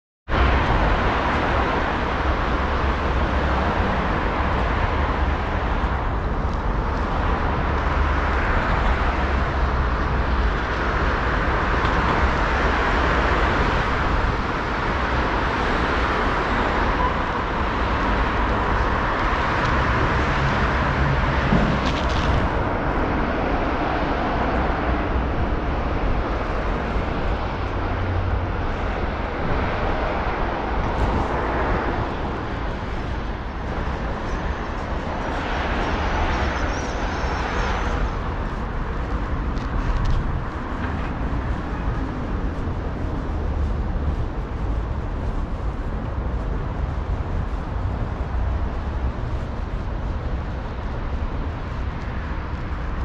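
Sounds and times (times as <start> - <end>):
city traffic rumble: 0.3 - 53.0.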